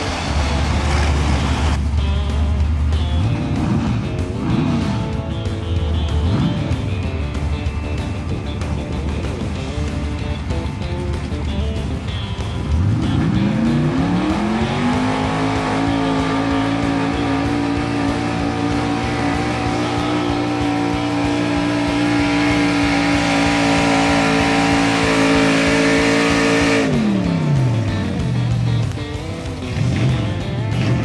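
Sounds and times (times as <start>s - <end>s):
tractor engine revving: 0.0s - 31.0s.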